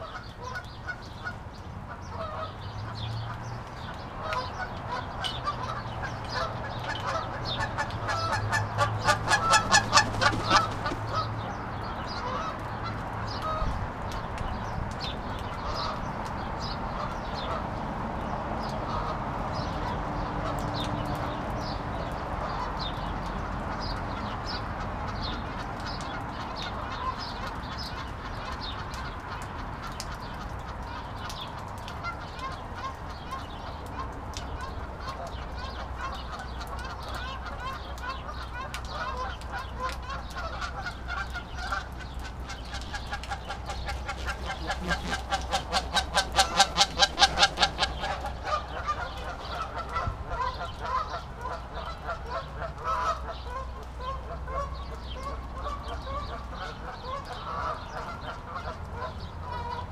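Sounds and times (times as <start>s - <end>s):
birds calling: 0.0s - 59.9s.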